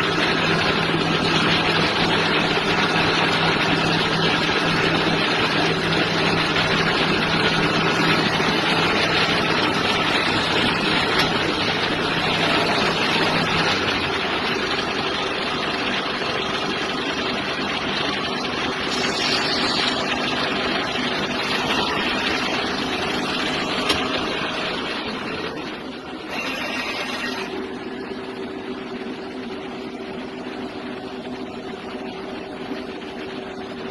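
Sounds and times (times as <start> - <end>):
lathe running: 0.0 - 33.9
low motor hum: 0.0 - 33.9.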